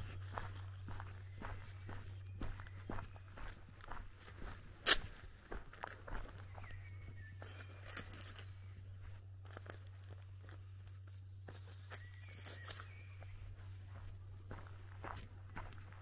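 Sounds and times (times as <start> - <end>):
bird chirps: 0.0 - 4.7, 5.8 - 9.2, 10.4 - 16.0
footsteps crunching on gravel: 0.0 - 16.0
steady low hum: 0.0 - 16.0.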